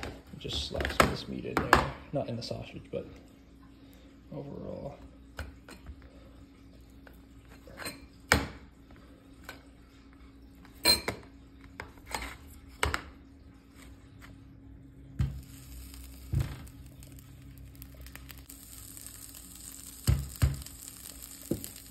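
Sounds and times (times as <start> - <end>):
faint sizzle: 0.0 - 21.9.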